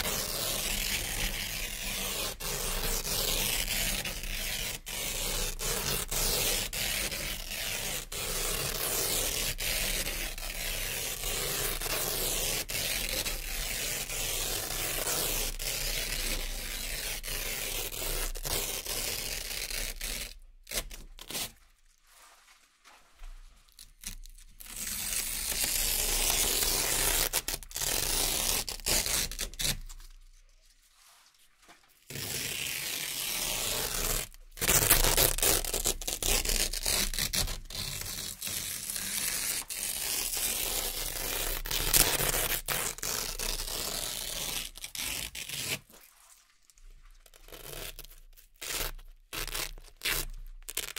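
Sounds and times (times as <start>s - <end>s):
velcro ripping apart: 0.0s - 21.6s, 23.7s - 30.4s, 31.0s - 50.9s.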